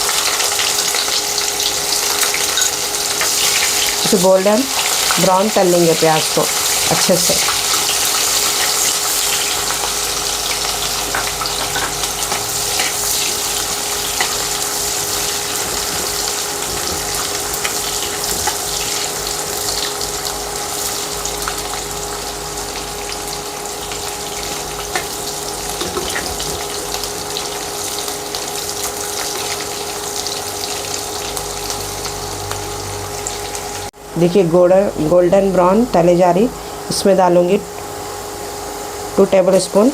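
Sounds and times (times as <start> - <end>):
onion sizzling in hot oil: 0.0 - 33.9, 34.7 - 39.9.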